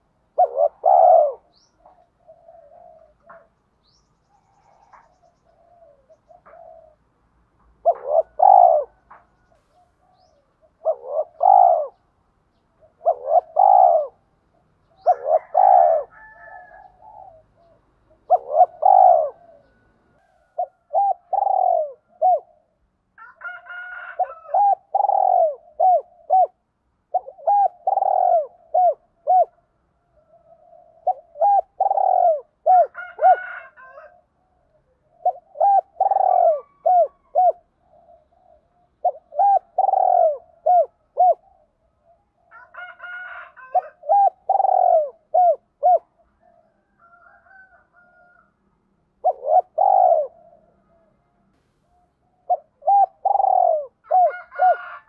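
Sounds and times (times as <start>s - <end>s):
dove cooing: 0.0s - 48.5s, 49.2s - 55.0s.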